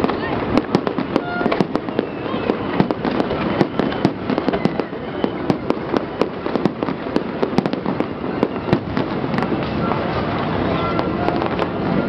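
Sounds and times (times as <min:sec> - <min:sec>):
fireworks bangs and cracks: 0:00.0 - 0:12.0
fireworks crackling: 0:00.0 - 0:12.0.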